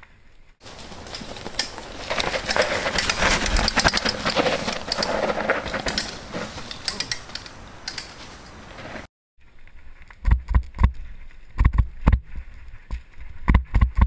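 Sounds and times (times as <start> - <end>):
bike tyres crunching on dirt: 0.0 - 13.5
bike clicks and rattles: 0.6 - 14.0.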